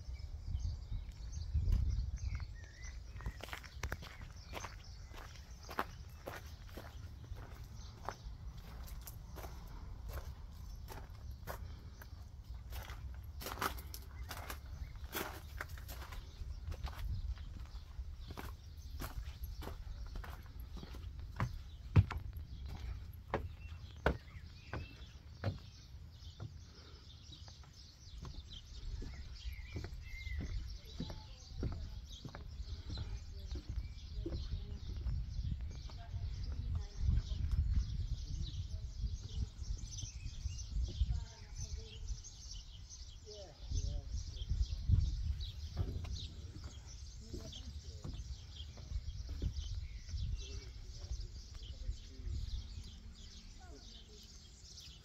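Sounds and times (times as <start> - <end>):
small birds chirping: 0.0 - 55.0
footsteps on wooden decking: 1.1 - 55.0.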